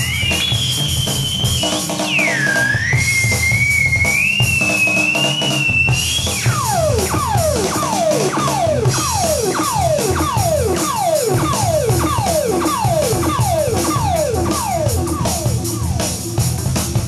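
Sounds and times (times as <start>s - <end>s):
theremin swooping downward: 0.0s - 16.6s
bass guitar: 0.0s - 17.0s
rock drums: 0.0s - 17.0s.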